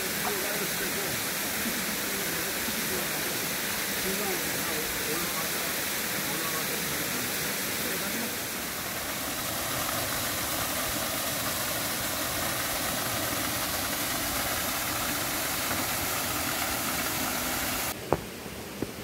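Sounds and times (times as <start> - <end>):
waterfall rushing: 0.0 - 18.0
stream noise: 0.0 - 19.0.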